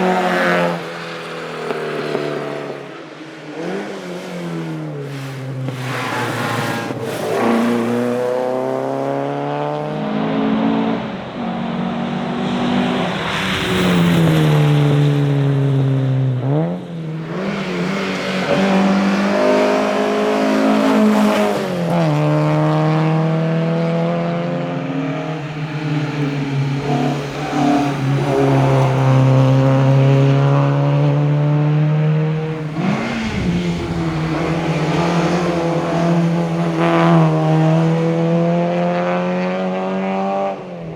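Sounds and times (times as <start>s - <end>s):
car engine revving through gears: 0.0s - 40.7s.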